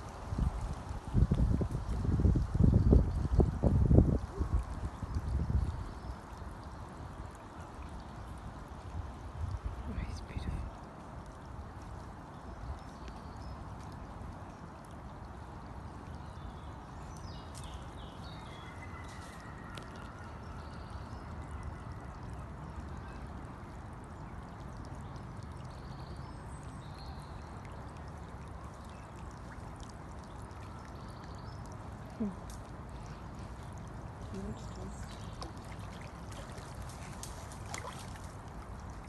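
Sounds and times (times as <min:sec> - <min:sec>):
floodwater rushing and gurgling: 0:00.0 - 0:39.0.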